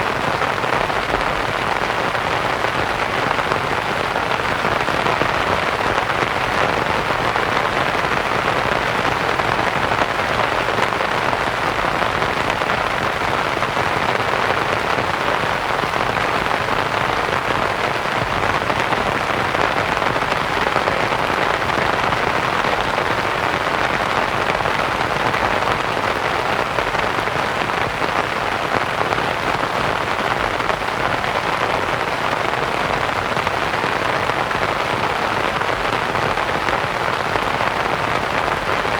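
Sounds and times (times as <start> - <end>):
rain pattering on a canvas tent: 0.0 - 38.9.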